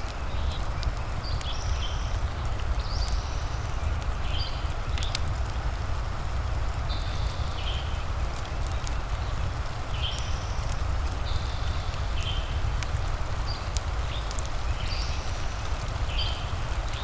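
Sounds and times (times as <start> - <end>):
fireplace crackling and popping: 0.0 - 17.0
gentle rain hiss: 0.0 - 17.0.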